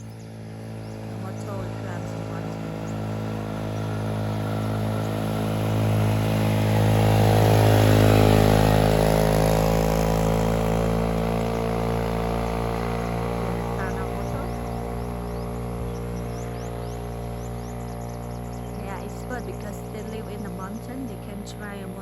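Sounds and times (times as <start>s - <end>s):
motorbike engine labouring uphill: 0.0s - 22.0s.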